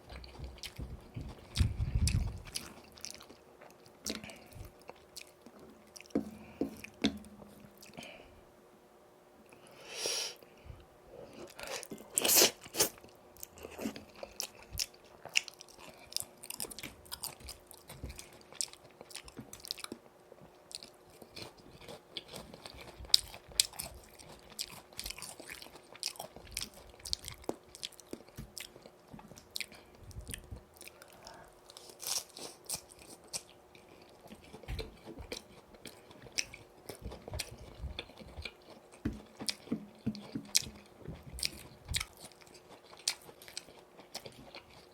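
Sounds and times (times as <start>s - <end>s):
chewing: 0.0s - 8.2s, 11.3s - 44.9s.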